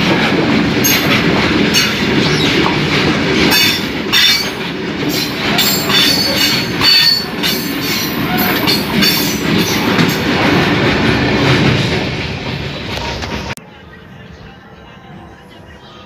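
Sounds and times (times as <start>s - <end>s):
wheels clattering on rails: 0.0s - 13.6s
freight train rushing past: 0.0s - 16.0s.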